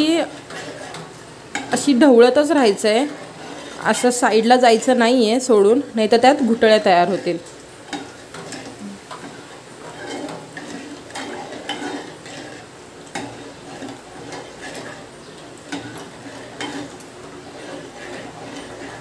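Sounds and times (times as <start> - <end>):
metal spoon stirring thick batter: 0.0 - 19.0.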